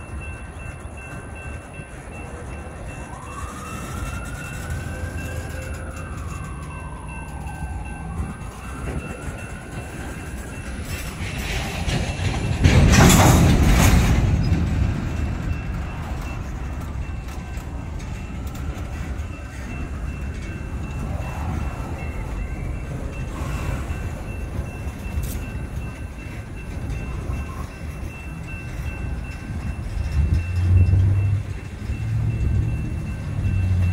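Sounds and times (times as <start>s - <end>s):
train wheels rumbling on rail: 0.0s - 33.9s.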